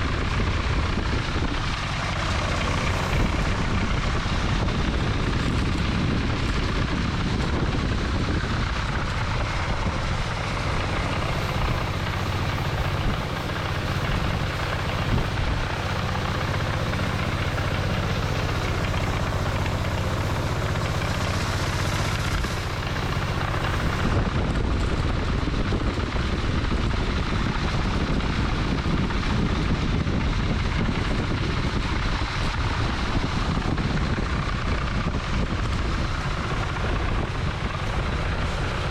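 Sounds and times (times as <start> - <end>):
winnowing fan droning: 0.0 - 38.9.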